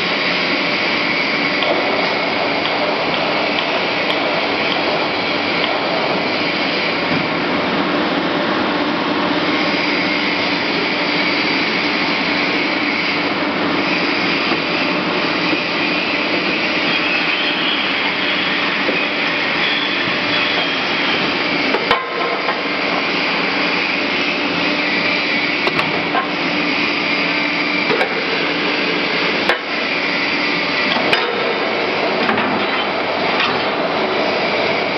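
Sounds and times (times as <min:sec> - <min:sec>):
loud machinery noise: 0:00.0 - 0:34.9.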